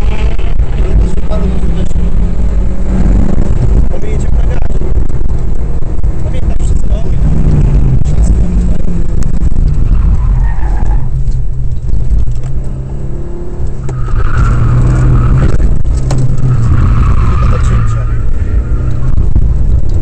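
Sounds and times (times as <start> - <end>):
rally car engine under load: 0.0 - 20.0.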